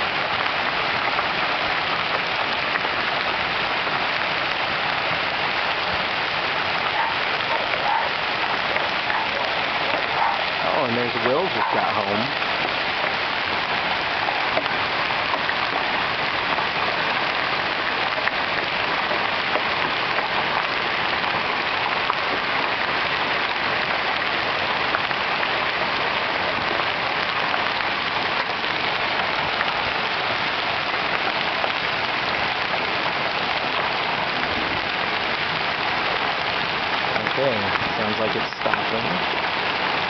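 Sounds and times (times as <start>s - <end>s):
hail and rain falling hard: 0.0s - 40.0s.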